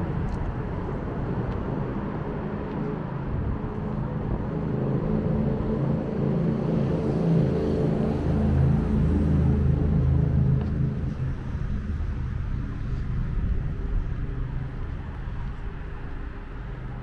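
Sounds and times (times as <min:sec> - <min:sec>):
city road traffic rumble: 0:00.0 - 0:17.0.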